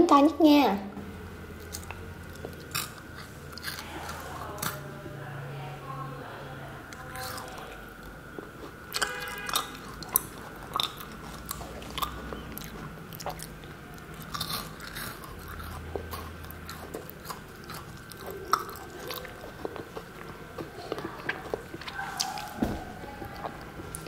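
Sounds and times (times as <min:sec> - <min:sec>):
person chewing with crunches: 0:01.4 - 0:04.9, 0:06.9 - 0:24.0.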